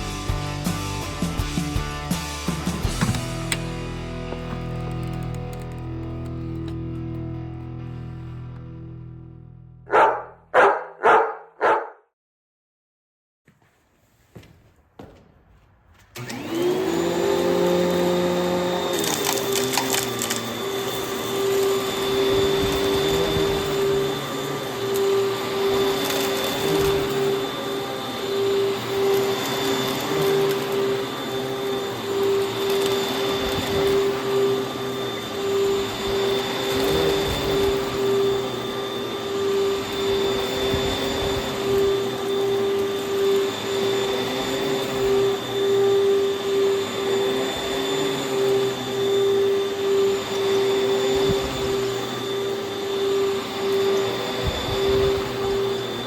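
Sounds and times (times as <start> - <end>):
vacuum cleaner whining: 0.0 - 8.8, 9.9 - 11.3, 14.3 - 56.0.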